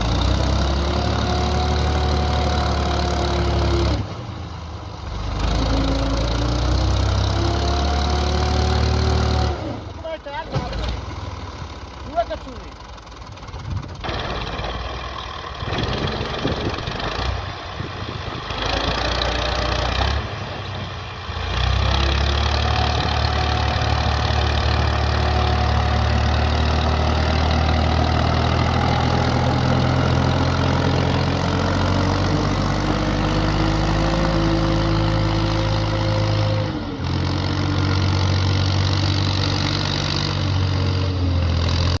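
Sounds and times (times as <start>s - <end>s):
tractor diesel engine running hard: 0.0s - 42.0s.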